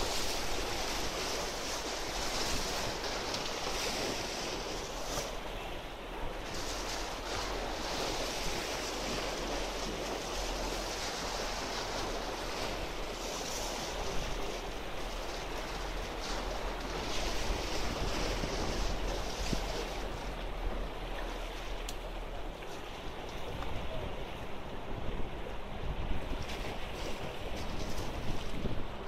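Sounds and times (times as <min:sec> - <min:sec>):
waves splashing against rocks: 0:00.0 - 0:29.0
wind rumble on microphone: 0:00.0 - 0:29.0.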